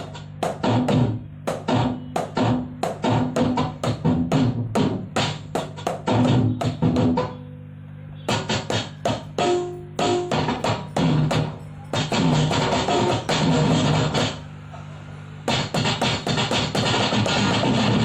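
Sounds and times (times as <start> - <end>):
drum-led music with bass line: 0.0 - 7.4, 8.2 - 14.4, 15.5 - 18.0.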